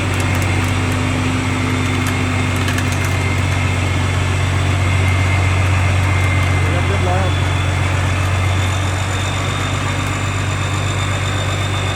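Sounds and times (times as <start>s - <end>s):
harvester engine drone: 0.0s - 11.9s
thin steady whine: 0.0s - 11.9s.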